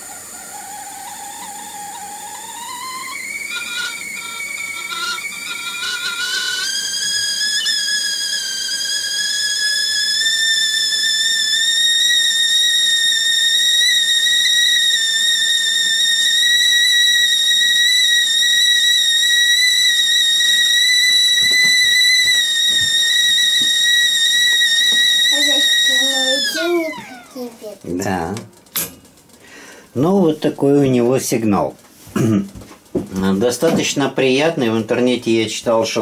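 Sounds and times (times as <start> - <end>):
stovetop kettle whistle: 0.0 - 30.8.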